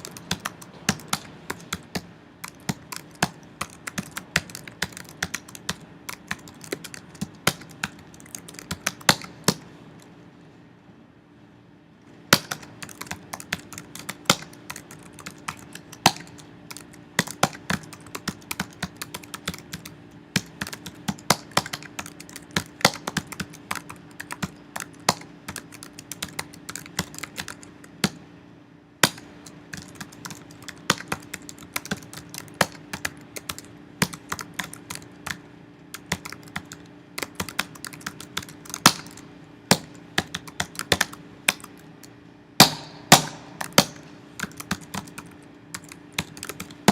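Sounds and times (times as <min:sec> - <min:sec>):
typing on computer keyboard: 0:00.0 - 0:09.6, 0:12.4 - 0:28.2, 0:29.0 - 0:42.2, 0:43.6 - 0:46.9
steady low hum: 0:00.0 - 0:46.9.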